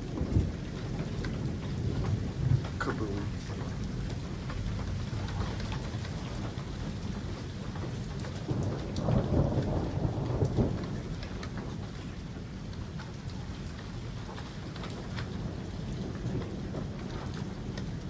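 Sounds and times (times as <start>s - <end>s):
raindrop ticks close by: 0.0s - 18.0s
steady rain: 0.0s - 18.0s
thunder rumbling: 0.0s - 18.0s.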